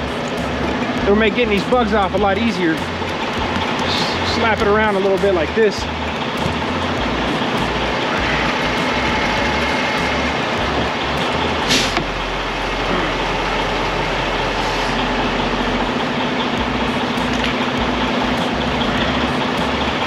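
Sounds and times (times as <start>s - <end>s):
diesel truck engines idling: 0.0s - 20.0s.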